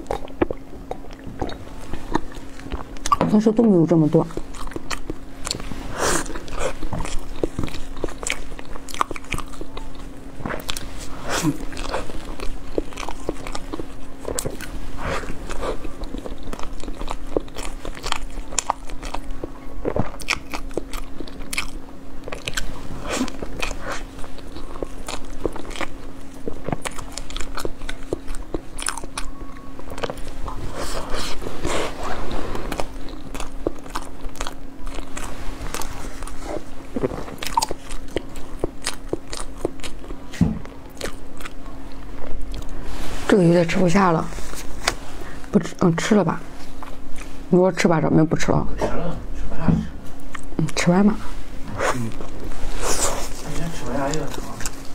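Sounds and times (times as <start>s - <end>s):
biting and chewing soft food: 0.0s - 47.8s, 48.8s - 54.9s
steady low hum: 0.0s - 54.9s.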